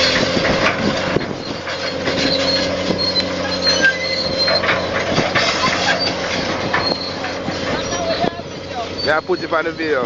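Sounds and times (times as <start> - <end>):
excavator engine running: 0.0 - 10.0
high-pitched metallic squeals: 0.0 - 10.0.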